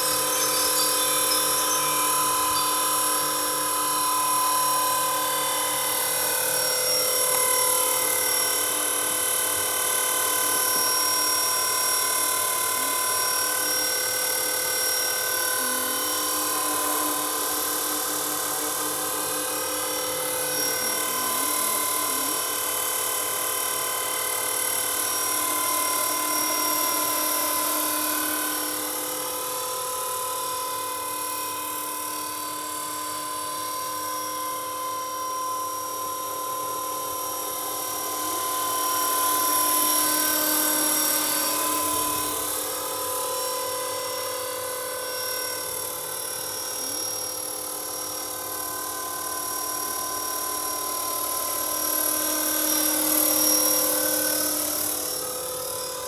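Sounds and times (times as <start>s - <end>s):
helicopter rotor: 0.0s - 56.0s
rc helicopter motor whine: 0.0s - 56.0s.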